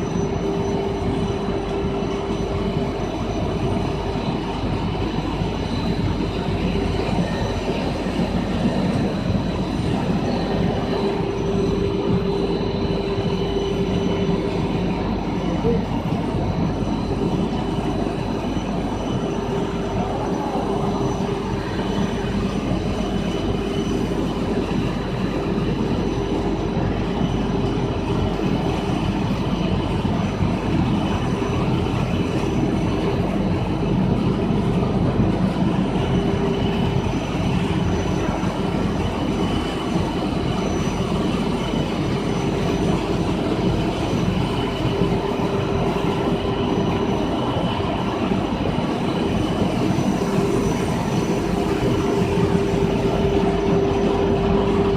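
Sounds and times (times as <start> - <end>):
extrusion machine humming: 0.0 - 54.9
faint high whine: 0.0 - 54.9.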